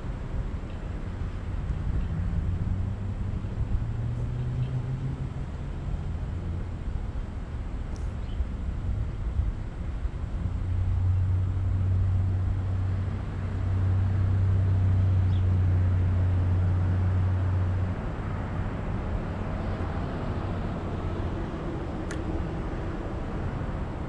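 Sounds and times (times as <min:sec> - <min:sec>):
low steady engine hum: 0:00.0 - 0:24.0
road traffic passing: 0:00.0 - 0:24.0.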